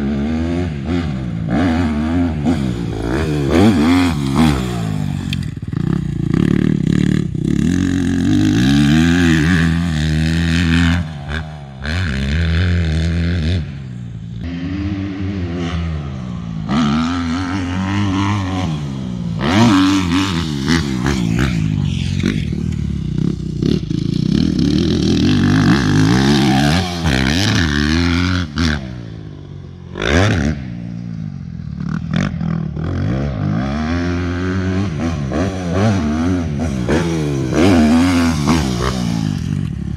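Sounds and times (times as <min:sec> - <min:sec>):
motocross bike revving: 0:00.0 - 0:39.9.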